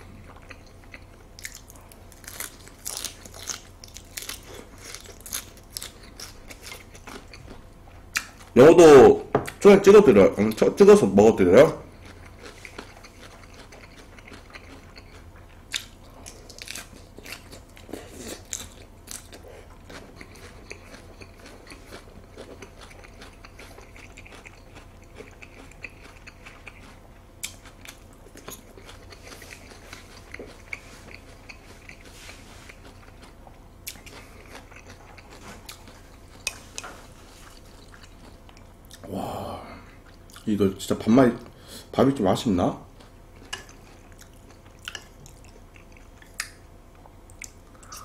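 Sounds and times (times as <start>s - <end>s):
chewing crisp food: 0.0s - 41.5s, 42.2s - 48.0s.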